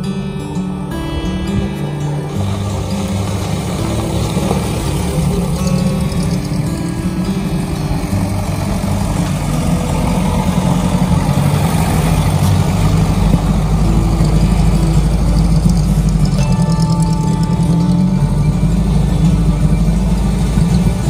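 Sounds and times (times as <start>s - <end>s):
car engine low rumble: 0.0s - 21.0s.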